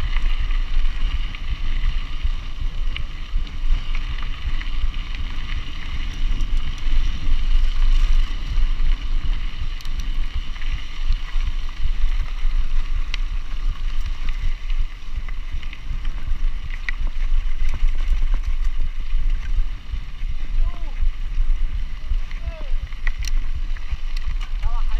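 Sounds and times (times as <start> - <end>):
bike frame rattling: 0.0 - 24.9
tyres crunching on gravel: 0.0 - 24.9
wind rumble on microphone: 0.0 - 24.9.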